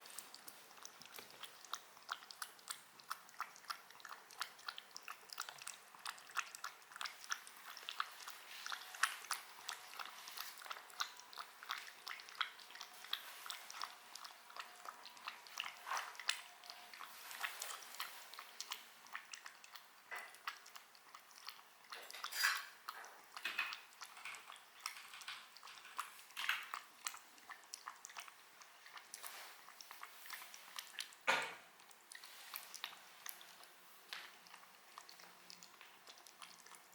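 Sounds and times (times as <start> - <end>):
chewing crunchy food: 0.0 - 36.9.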